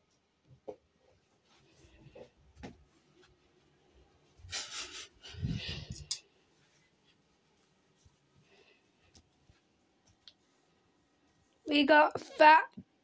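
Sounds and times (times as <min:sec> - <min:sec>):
rustling: 0:01.0 - 0:11.7.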